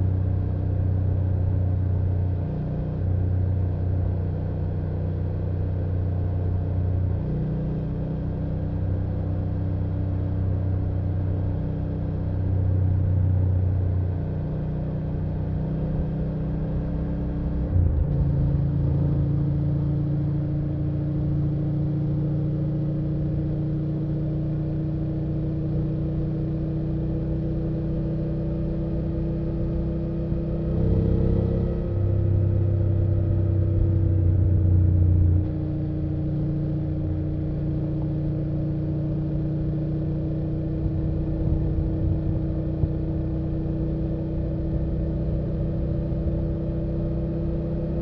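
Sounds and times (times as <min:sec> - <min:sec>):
motorcycle engine running: 0:00.1 - 0:48.0.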